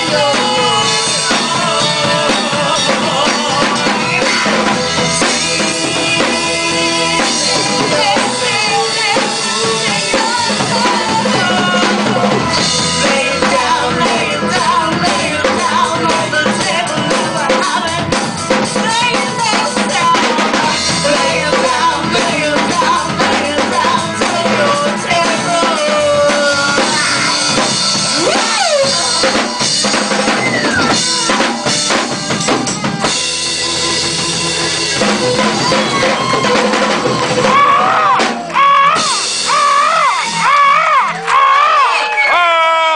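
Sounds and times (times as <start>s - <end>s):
drum kit beat: 0.0s - 42.9s
live rock band playing: 0.0s - 42.9s.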